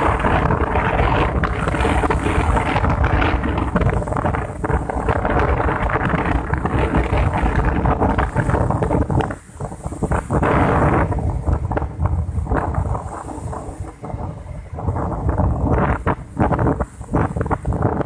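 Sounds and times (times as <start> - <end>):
rough sea rushing: 0.0 - 18.0
wind buffeting microphone: 0.0 - 18.0.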